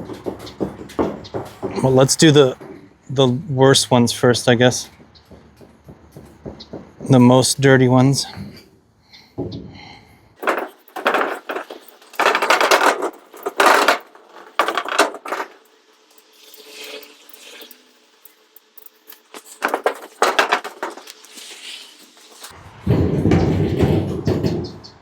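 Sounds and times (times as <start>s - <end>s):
scrubbing metal roofing panels: 0.0s - 8.6s, 9.4s - 15.6s, 19.2s - 25.0s.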